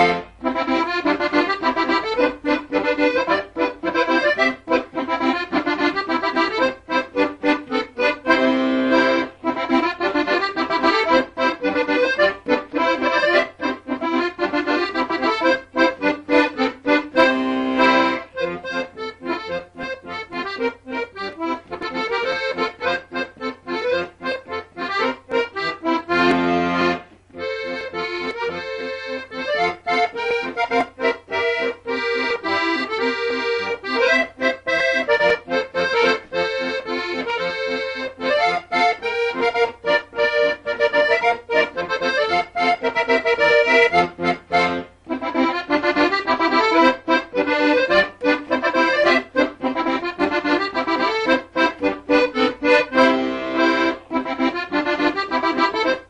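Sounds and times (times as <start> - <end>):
instrumental music with quick beat: 0.0 - 56.0.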